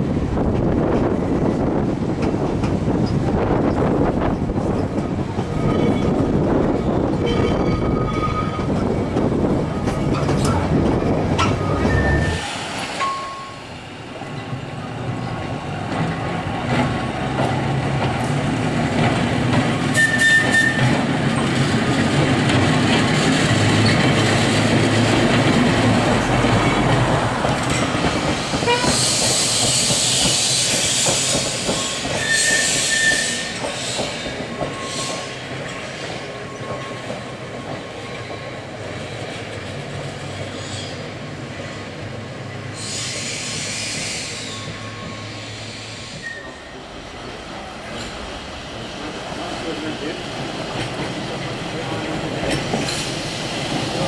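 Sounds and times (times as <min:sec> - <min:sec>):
electric tram motors humming: 0:00.0 - 0:20.1, 0:20.8 - 0:31.6, 0:33.6 - 0:54.0
steel wheels clattering on rail: 0:00.3 - 0:41.1, 0:41.8 - 0:54.0.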